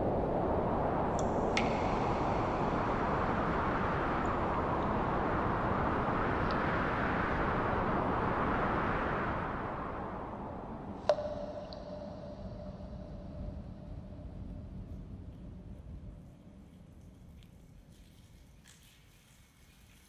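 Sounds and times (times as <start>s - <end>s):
steady rushing noise: 0.0s - 16.6s.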